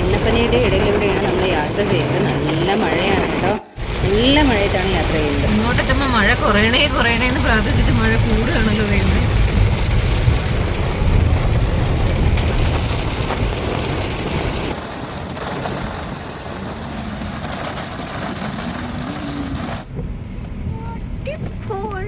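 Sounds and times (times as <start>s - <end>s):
engine and road rumble: 0.0s - 22.0s
heavy rain on a car: 0.0s - 22.0s.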